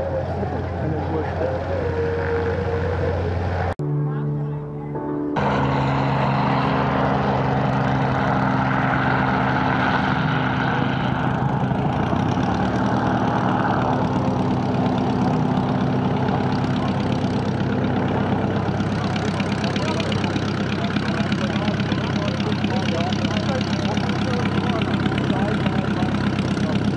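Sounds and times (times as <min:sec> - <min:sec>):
light aircraft engine running: 0:00.0 - 0:03.8, 0:05.4 - 0:26.9.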